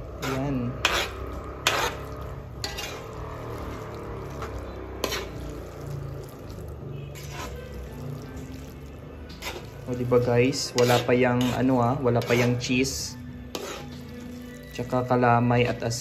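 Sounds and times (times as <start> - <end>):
sauced noodles squelching: 0.0 - 15.9
utensils clinking on metal pan: 0.2 - 6.4, 7.1 - 16.0.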